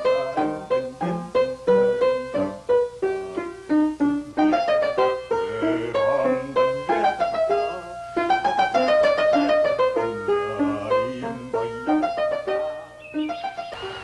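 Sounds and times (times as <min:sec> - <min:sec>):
piano notes: 0:00.0 - 0:14.0.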